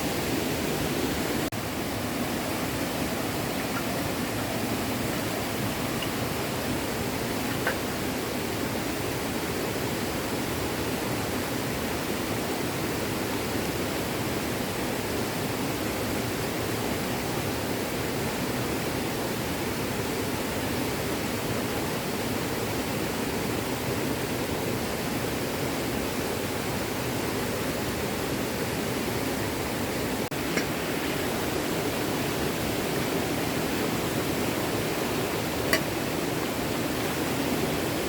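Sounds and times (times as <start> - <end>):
small stream flowing: 0.0 - 38.0.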